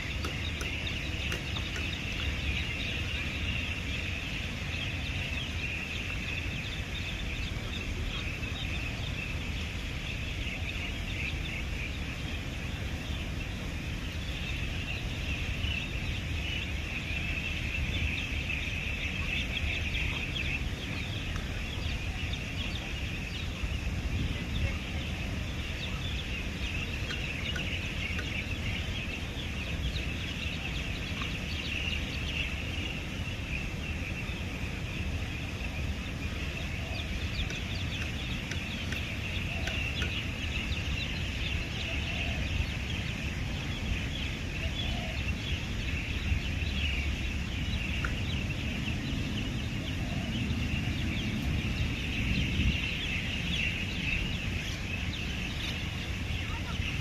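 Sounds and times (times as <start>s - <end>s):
birds twittering: 0.0s - 57.0s.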